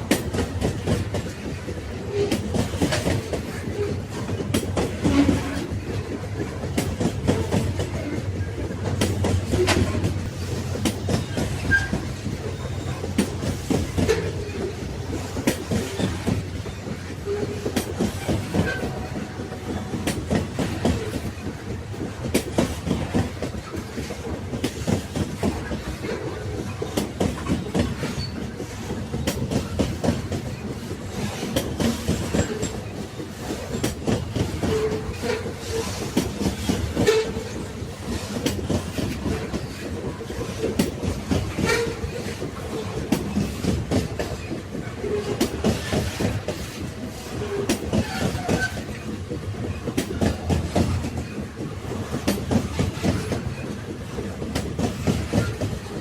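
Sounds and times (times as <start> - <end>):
railway wagons rumbling: 0.0 - 56.0
wheels clanking over rails: 0.0 - 56.0.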